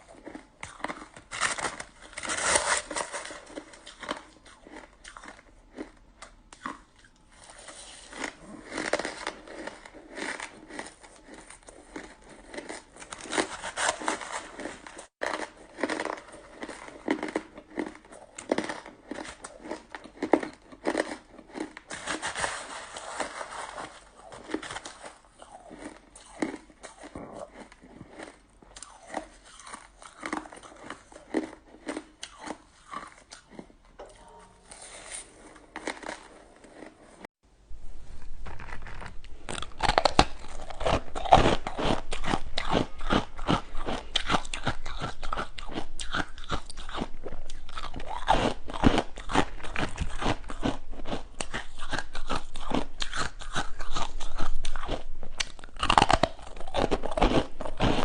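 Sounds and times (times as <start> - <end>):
person chewing crunchy ice: 0.0 - 33.8, 35.5 - 37.3, 38.2 - 58.0.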